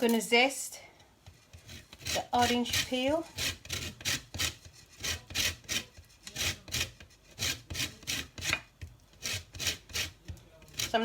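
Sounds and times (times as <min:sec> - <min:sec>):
grater rasping strokes: 0:01.4 - 0:11.0.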